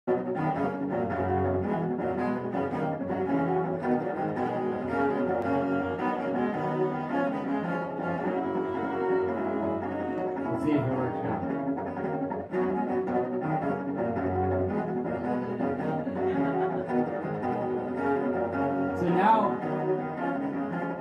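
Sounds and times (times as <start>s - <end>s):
solo cello melody: 0.1s - 21.0s.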